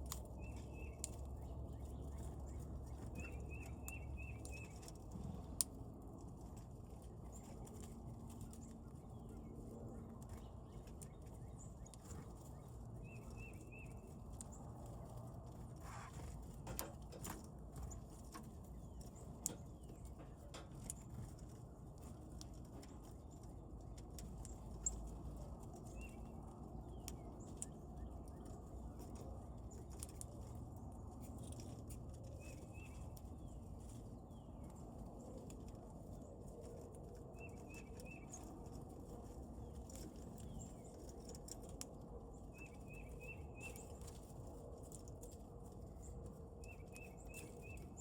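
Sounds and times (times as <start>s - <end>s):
small birds chirping: 0.0s - 48.0s
steady low rumble: 0.0s - 48.0s.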